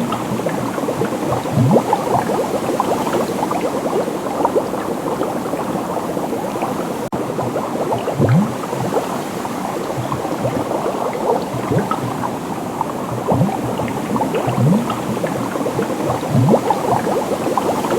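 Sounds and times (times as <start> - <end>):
deeper gurgling bubbles: 0.0 - 17.9
liquid bubbling: 0.0 - 17.9.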